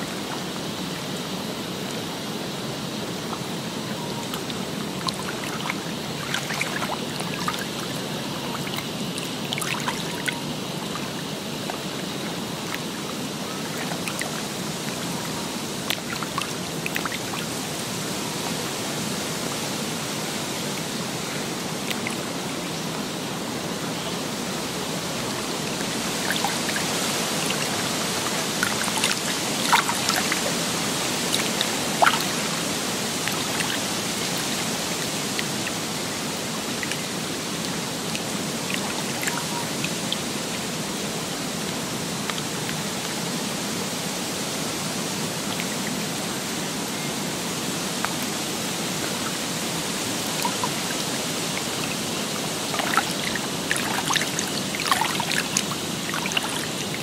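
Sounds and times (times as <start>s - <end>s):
running water rushing: 0.0s - 57.0s
water trickles and drips: 0.0s - 57.0s.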